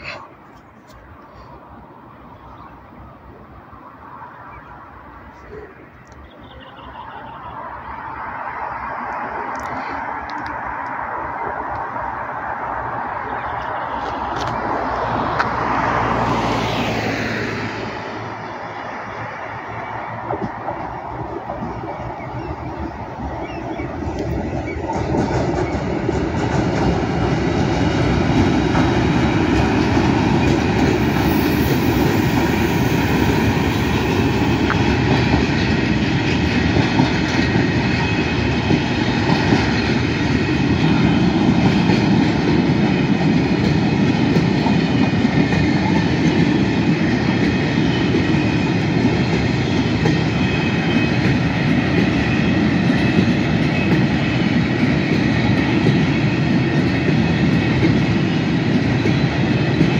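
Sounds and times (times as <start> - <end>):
electric locomotives passing: 0.0 - 59.9
train wheels on rails: 0.0 - 59.9.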